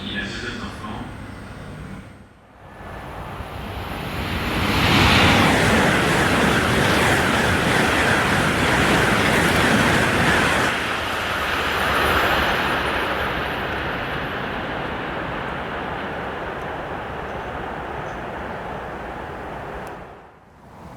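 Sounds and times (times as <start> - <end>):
high-speed train rushing past: 0.0 - 20.9.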